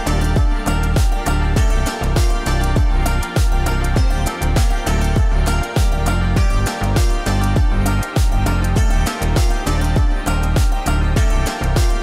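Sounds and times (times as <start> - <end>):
deep kick drum: 0.0 - 12.0
sustained melodic notes: 0.0 - 12.0.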